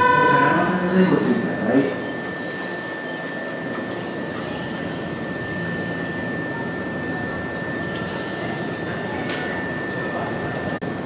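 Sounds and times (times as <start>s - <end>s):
electric train running hum: 0.0s - 11.0s
high train whine: 0.0s - 11.0s.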